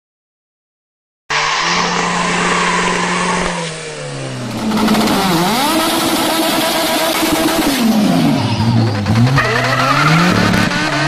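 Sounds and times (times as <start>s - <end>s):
car engine revving: 1.3s - 11.0s.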